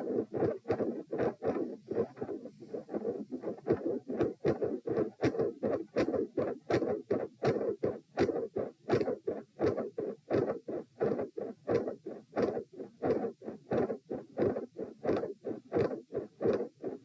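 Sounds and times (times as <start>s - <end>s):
heartbeat lub-dub: 0.0s - 17.0s.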